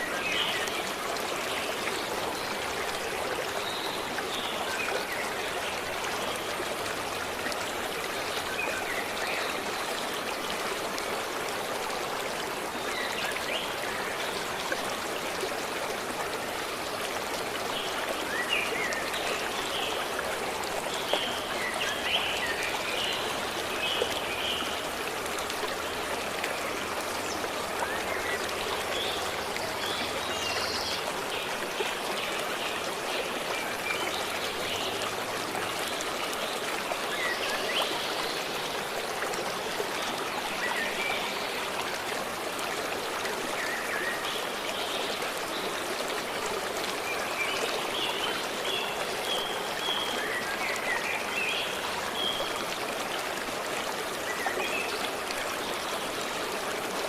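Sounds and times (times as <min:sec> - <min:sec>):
forest stream running: 0:00.0 - 0:57.0.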